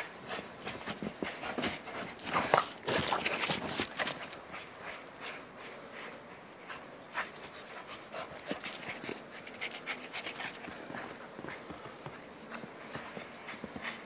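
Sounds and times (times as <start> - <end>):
dog panting: 0.0 - 2.8, 3.4 - 14.0.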